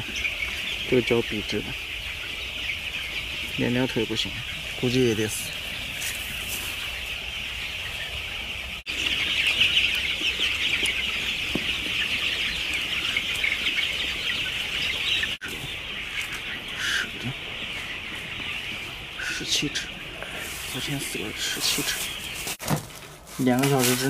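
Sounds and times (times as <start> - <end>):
chicks cheeping: 0.0 - 24.0.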